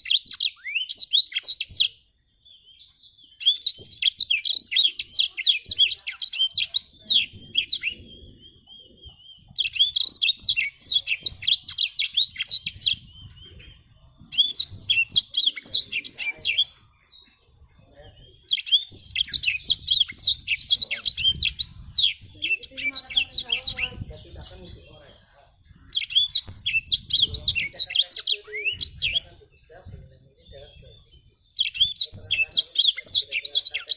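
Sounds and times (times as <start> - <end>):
canary singing warbling phrases: 0.0 - 33.9.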